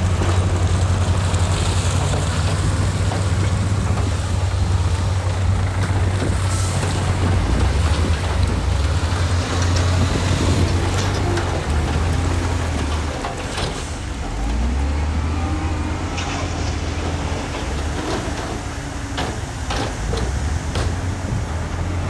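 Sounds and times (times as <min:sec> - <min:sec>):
metal clanks and knocks: 0:00.0 - 0:14.8, 0:16.0 - 0:21.9
heavy diesel machinery drone: 0:00.0 - 0:22.0.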